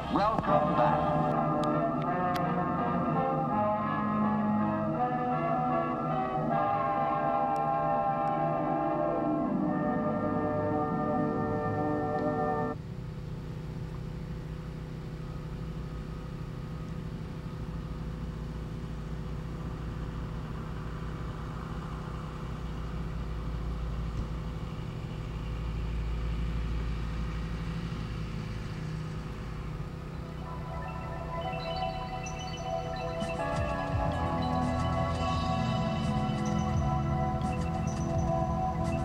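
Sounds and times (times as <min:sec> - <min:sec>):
engine idling rumble: 0:00.0 - 0:39.0.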